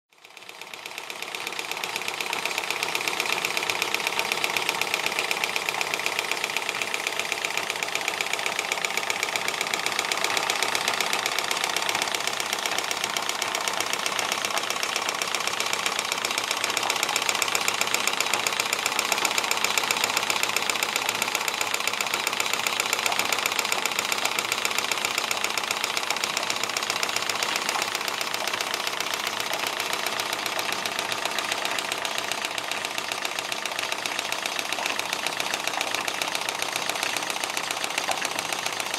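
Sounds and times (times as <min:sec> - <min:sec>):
model steam engine clatter: 0:00.2 - 0:38.9.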